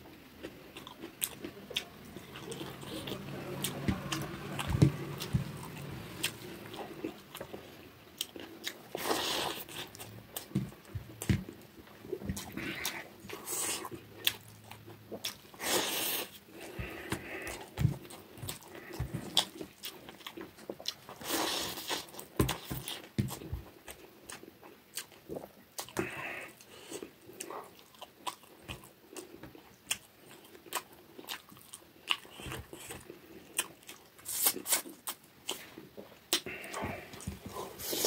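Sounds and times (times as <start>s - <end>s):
man chewing: 0.0s - 38.0s.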